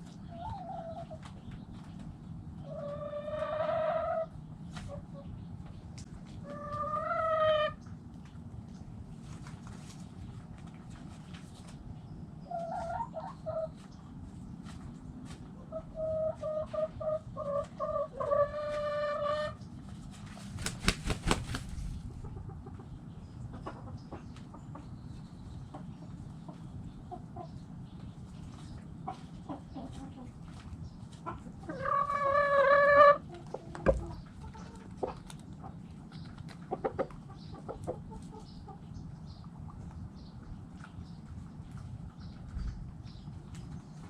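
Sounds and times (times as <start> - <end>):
chickens calling and clucking: 0.0 - 44.0.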